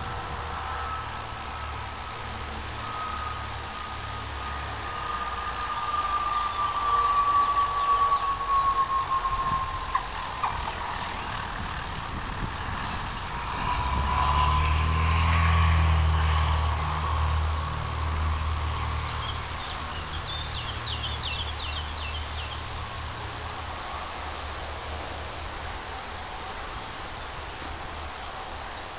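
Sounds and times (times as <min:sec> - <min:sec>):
wind buffeting: 0:00.0 - 0:28.5
propeller plane engine droning: 0:00.0 - 0:28.9.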